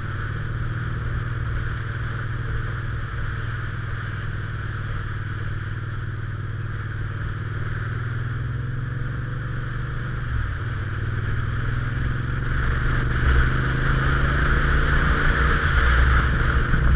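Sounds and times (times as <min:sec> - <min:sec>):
motorcycle engine running: 0:00.0 - 0:16.9
wind and road rush: 0:00.0 - 0:16.9.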